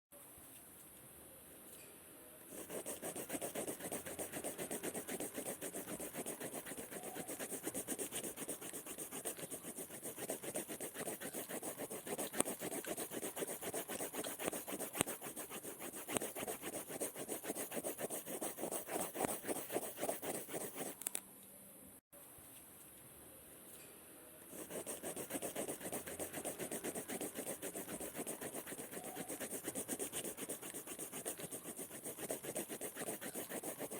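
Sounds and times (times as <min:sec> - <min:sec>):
pencil scribbling on paper: 0:02.5 - 0:21.0, 0:24.5 - 0:33.9.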